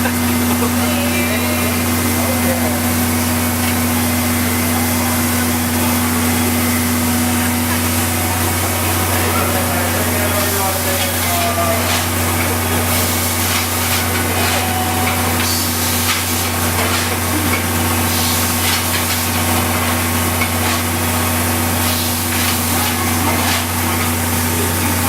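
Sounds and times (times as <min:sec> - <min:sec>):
steam locomotive hissing: 0:00.0 - 0:25.0.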